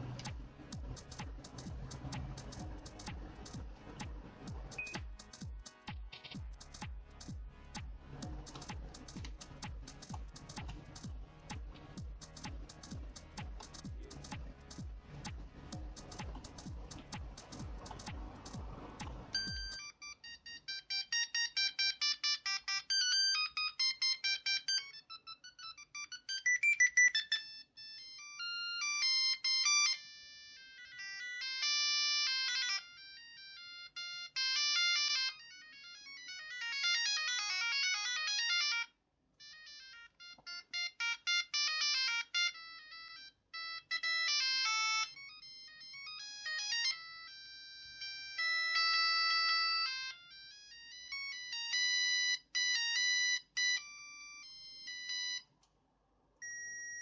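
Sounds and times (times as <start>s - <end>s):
mobile phone ringtone melodies: 0.0s - 55.5s.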